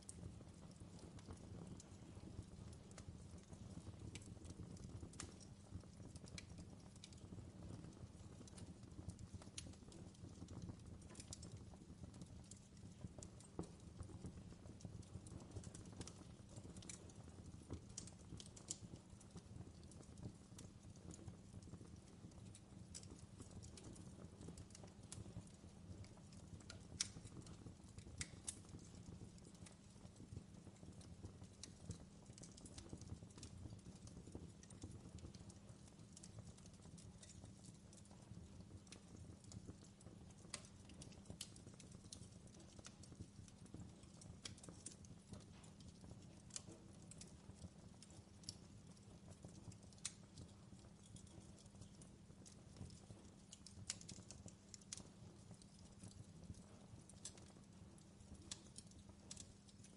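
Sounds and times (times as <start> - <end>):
fire pops and snaps: 0.0 - 59.9
low rumble of fire: 0.0 - 59.9.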